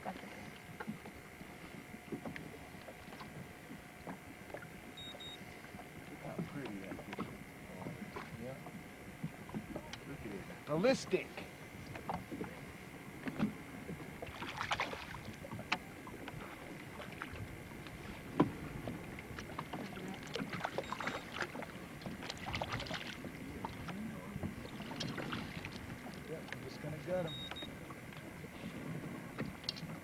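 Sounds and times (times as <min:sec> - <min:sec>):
light water splashing: 0:00.0 - 0:30.0.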